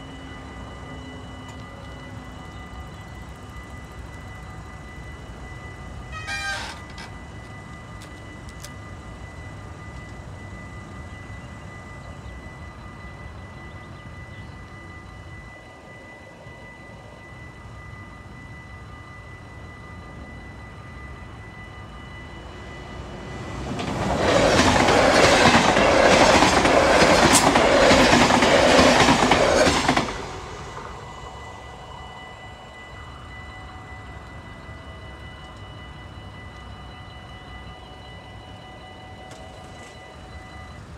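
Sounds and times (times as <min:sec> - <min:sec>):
crossing warning bell ringing: 0:00.0 - 0:40.9
electric train passing: 0:00.0 - 0:40.9.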